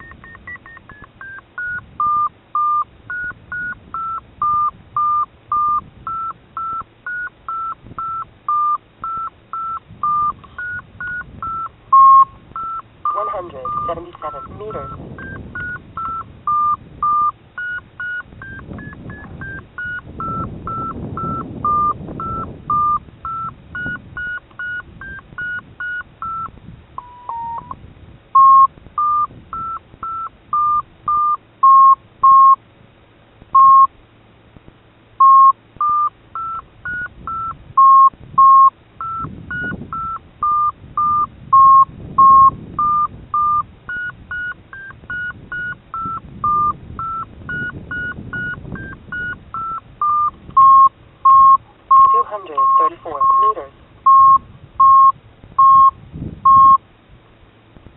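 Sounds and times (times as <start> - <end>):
variometer beeping: 0.0 - 32.7, 33.5 - 34.0, 35.2 - 56.8.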